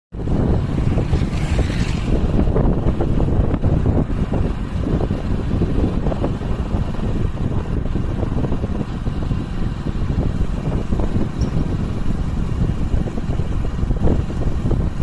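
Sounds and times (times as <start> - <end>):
road and vehicle rumble: 0.1 - 15.0
wind rushing over microphone: 0.1 - 15.0.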